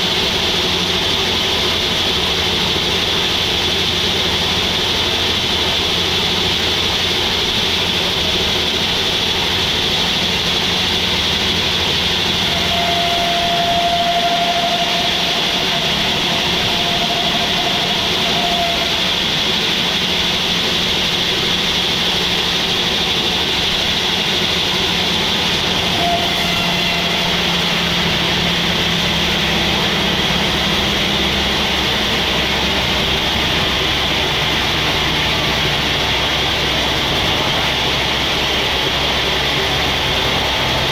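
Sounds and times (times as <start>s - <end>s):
sawmill machinery running: 0.0s - 40.9s
thin mechanical whine: 0.0s - 40.9s.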